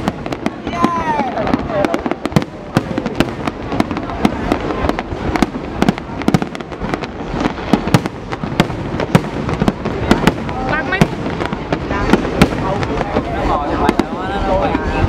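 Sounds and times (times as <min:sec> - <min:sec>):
crackling rumble: 0:00.0 - 0:15.0.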